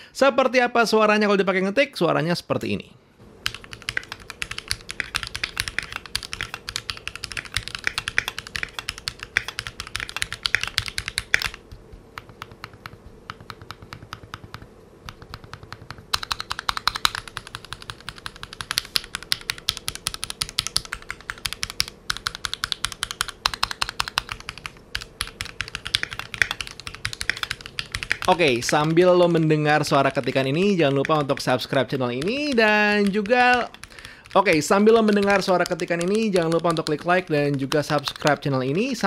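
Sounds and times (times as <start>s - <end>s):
mechanical keyboard typing: 3.4s - 39.0s.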